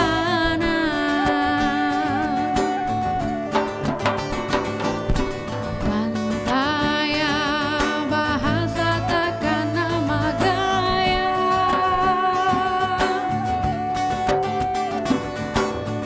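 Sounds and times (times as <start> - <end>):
woman singing: 0.0 - 3.8, 5.7 - 15.2
acoustic guitar: 0.0 - 16.0.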